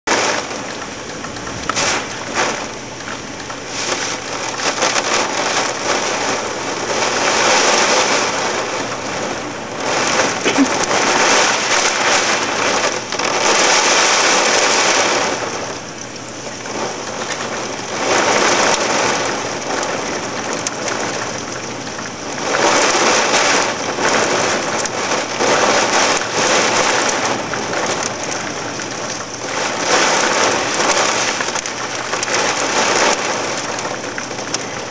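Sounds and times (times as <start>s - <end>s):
heavy rain downpour: 0.0s - 34.9s.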